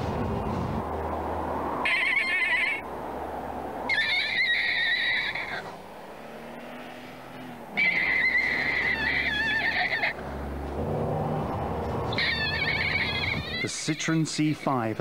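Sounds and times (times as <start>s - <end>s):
low engine hum: 0.0s - 13.7s
tyre screeching: 1.7s - 2.9s, 3.8s - 14.8s.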